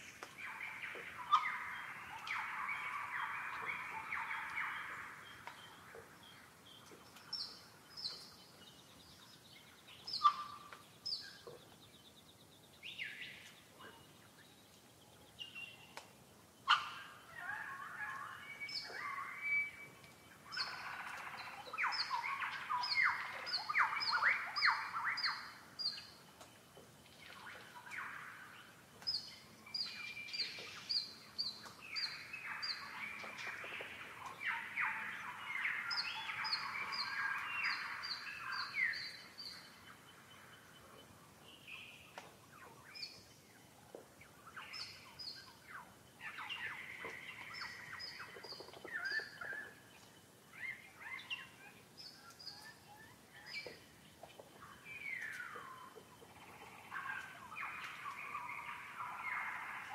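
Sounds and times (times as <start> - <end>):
bird chattering song: 0.0 - 16.0, 16.7 - 26.2, 27.2 - 59.9
wild birds singing and calling: 0.0 - 59.9.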